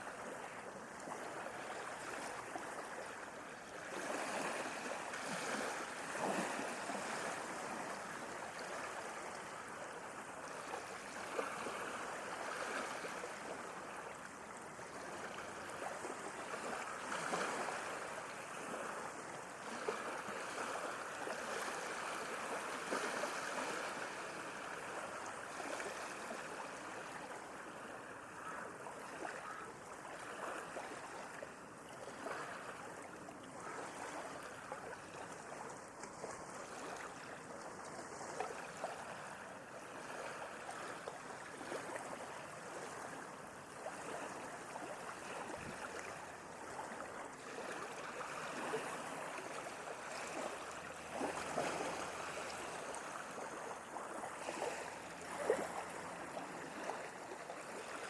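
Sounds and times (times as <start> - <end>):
sea waves lapping and splashing: 0.0 - 58.0.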